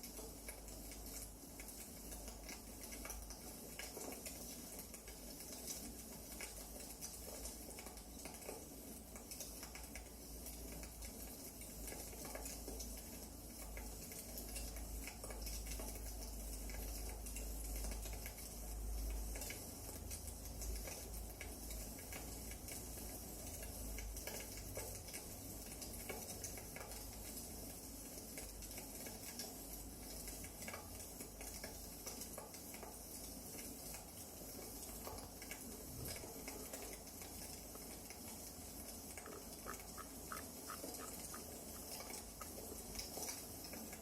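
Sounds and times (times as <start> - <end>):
fireplace fire crackling: 0.0 - 44.0
soft hiss of fire: 0.0 - 44.0.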